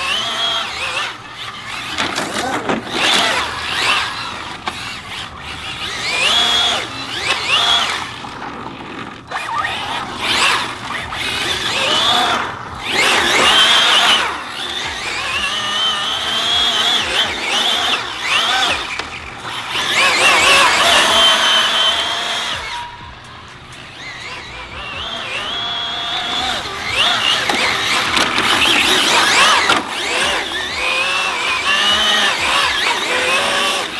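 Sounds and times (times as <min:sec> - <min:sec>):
electric motor whining: 0:00.0 - 0:33.9.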